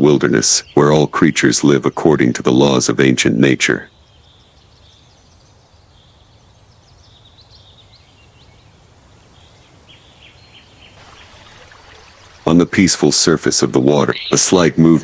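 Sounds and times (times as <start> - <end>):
low outdoor background: 0.0 - 15.0.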